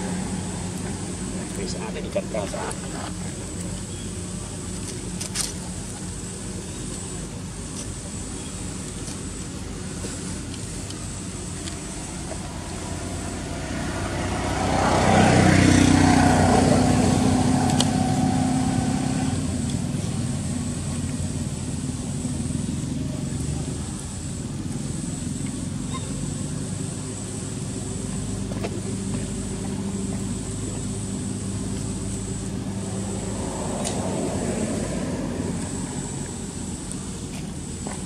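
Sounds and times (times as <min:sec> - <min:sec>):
vehicle engine passing by: 0:00.0 - 0:03.6, 0:11.1 - 0:38.0.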